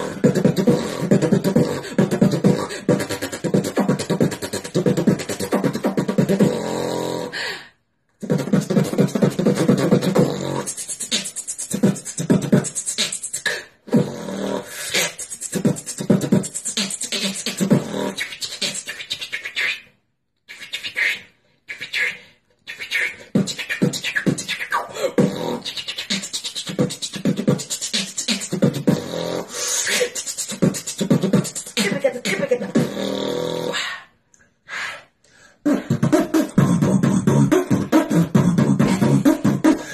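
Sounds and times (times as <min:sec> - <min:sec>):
person beatboxing: 0:00.0 - 0:07.5, 0:08.1 - 0:34.1, 0:34.9 - 0:39.9.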